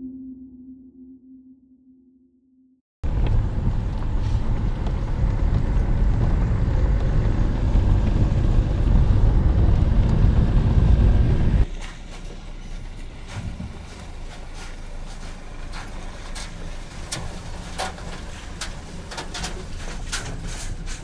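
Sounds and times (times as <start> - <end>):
vehicle engine and road noise: 3.0 - 21.0.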